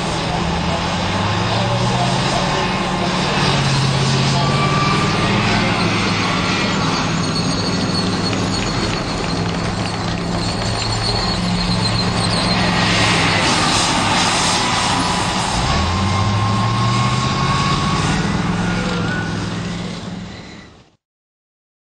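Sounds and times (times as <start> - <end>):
tank engine whine: 0.0 - 21.0
tank track noise: 0.0 - 21.0.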